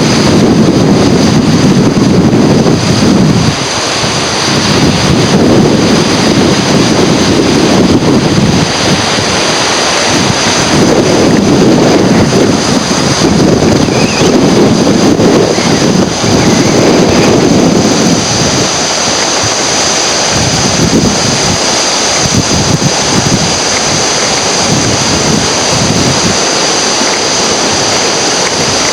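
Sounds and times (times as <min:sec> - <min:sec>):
rushing water: 0:00.0 - 0:28.9
wind buffeting microphone: 0:00.0 - 0:28.9.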